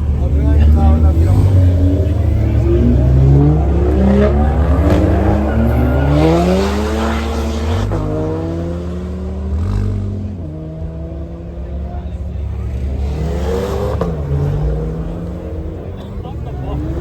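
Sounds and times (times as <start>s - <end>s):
car accelerating hard: 0.0s - 17.0s.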